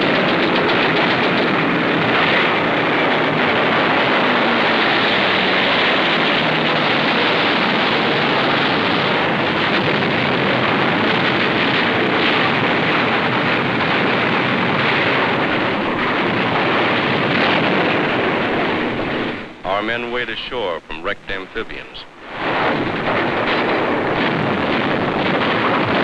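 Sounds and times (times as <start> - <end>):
rushing water and surf: 1.4 - 26.0.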